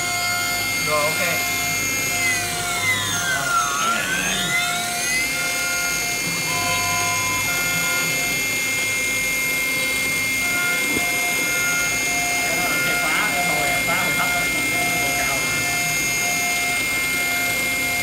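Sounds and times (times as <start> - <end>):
milling spindle whining: 0.0 - 18.0
short motor tones: 0.0 - 18.0.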